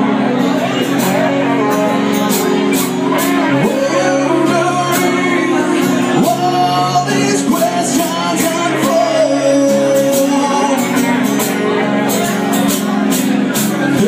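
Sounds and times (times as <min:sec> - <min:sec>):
electric bass: 0:00.0 - 0:14.0
strummed acoustic guitar: 0:00.0 - 0:14.0
man singing: 0:00.1 - 0:12.4, 0:13.6 - 0:14.0.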